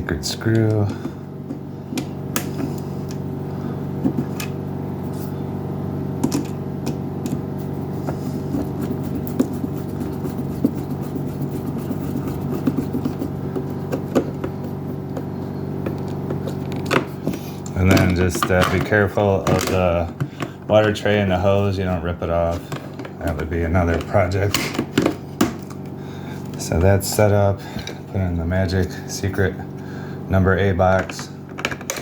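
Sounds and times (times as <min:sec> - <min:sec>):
steady machine-like hum: 0:00.0 - 0:32.0.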